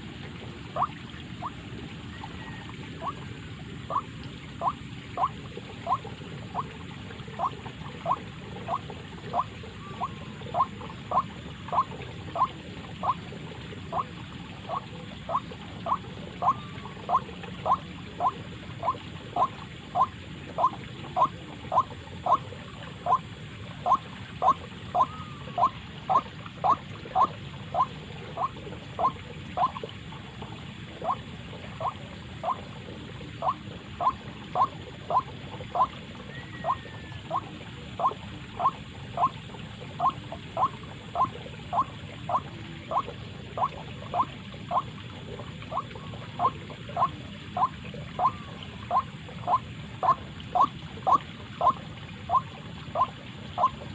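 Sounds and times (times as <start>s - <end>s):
waterhen call through speaker: 0.0s - 53.9s.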